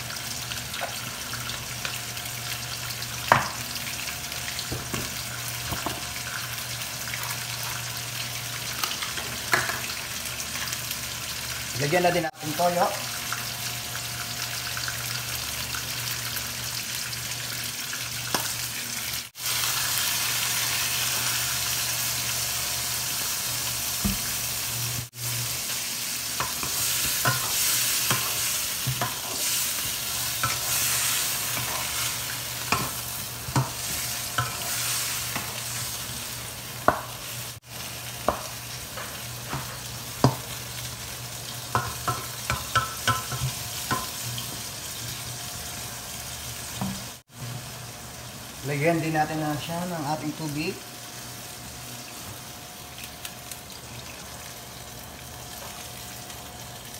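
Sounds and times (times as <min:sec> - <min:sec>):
chicken sizzling in a pan: 0:00.0 - 0:56.9.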